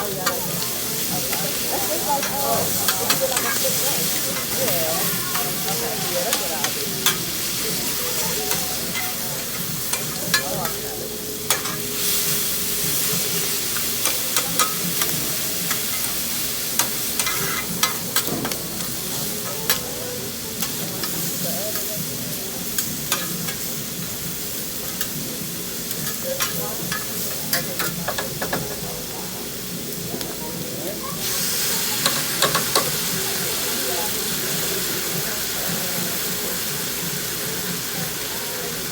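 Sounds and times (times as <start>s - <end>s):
food sizzling on a griddle: 0.0s - 38.9s.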